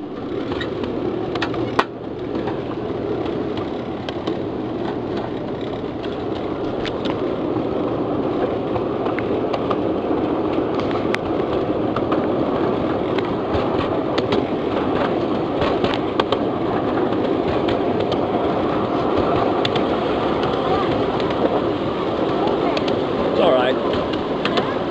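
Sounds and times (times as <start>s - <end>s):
miniature locomotive rolling rumble: 0.0s - 24.9s
sharp clicks and rattles: 0.1s - 24.9s.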